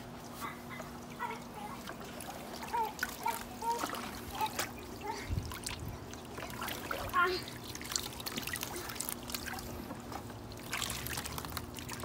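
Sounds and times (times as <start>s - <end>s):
water sloshing and dripping: 0.0s - 12.0s
small water splashes: 1.0s - 12.0s.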